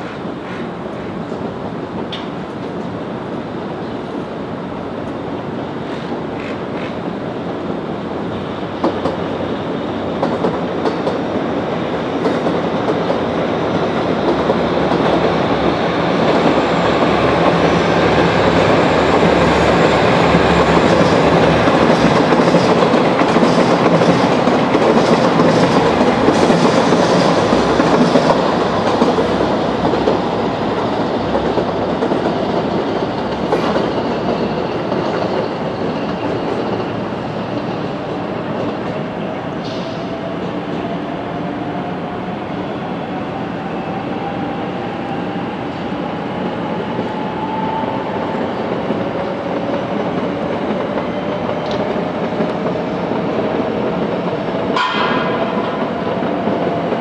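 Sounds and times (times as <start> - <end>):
rail clicks: 0.0 - 2.9, 8.7 - 42.2, 46.4 - 57.0
train wheel and running noise: 0.0 - 57.0.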